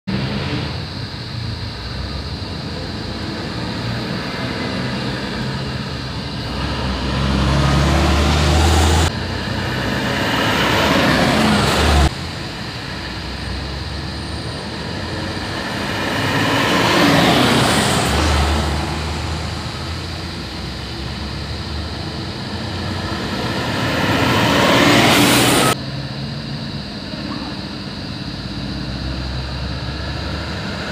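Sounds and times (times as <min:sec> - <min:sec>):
buses driving past: 0:00.1 - 0:30.9.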